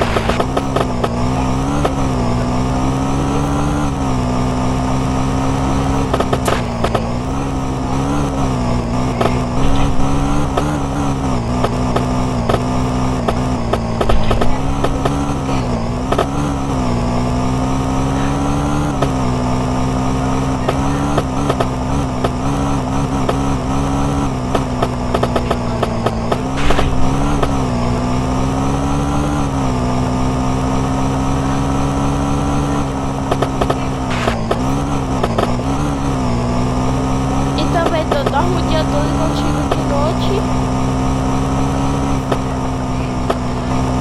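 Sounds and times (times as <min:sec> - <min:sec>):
moped engine running: 0:00.0 - 0:44.0.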